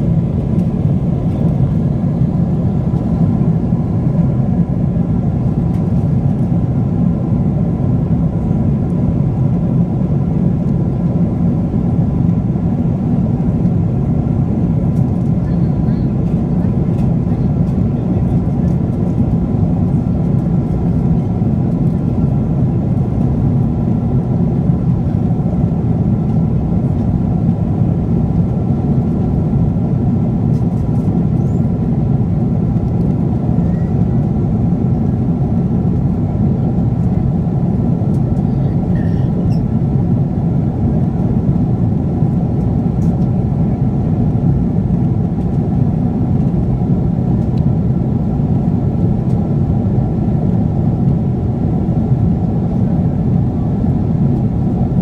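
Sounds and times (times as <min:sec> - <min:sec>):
aircraft cabin roar: 0:00.0 - 0:55.0.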